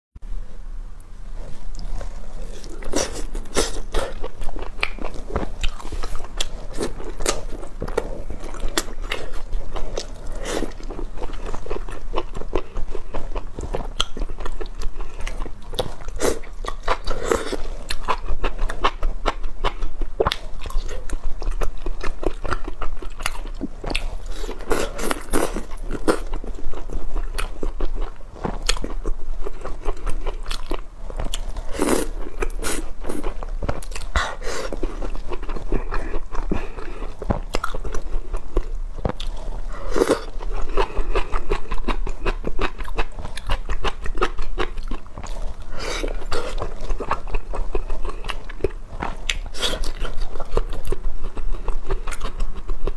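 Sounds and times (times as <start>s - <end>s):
person chewing food: 1.4s - 52.9s.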